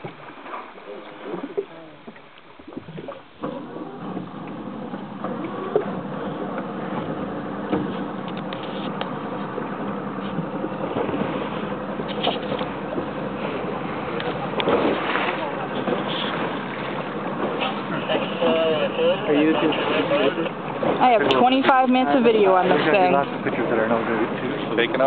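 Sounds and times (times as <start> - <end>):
outboard motor droning: 0.0 - 25.0.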